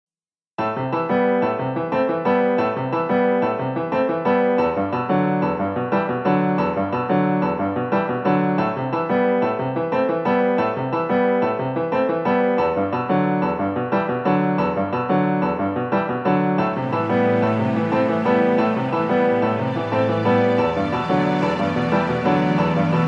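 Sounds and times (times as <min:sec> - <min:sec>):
piano music: 0:00.6 - 0:23.0.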